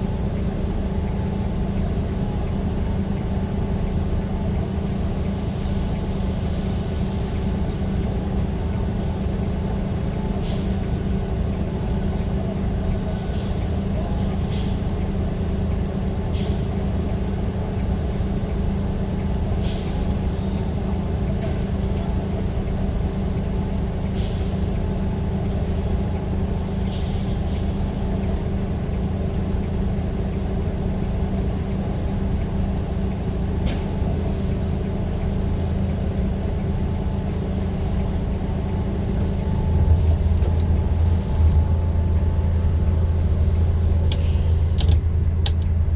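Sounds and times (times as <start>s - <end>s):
vehicle engine humming: 0.0s - 45.9s.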